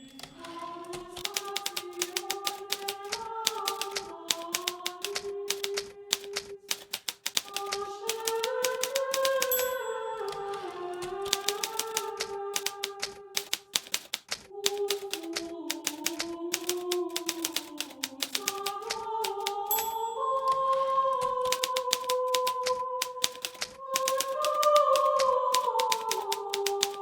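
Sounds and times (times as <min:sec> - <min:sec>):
manual typewriter typing: 0:00.0 - 0:27.0.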